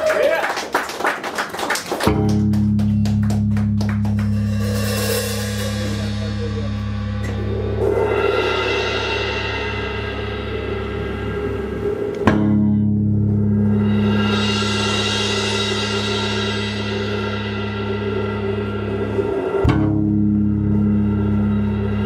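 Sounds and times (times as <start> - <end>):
steady low drone: 2.1 - 22.0
drum kit with cymbals: 4.1 - 22.0.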